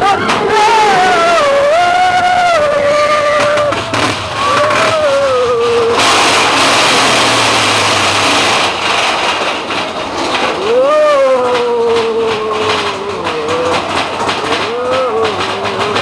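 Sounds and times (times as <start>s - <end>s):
roller coaster high-pitched squeal: 0.0s - 16.0s.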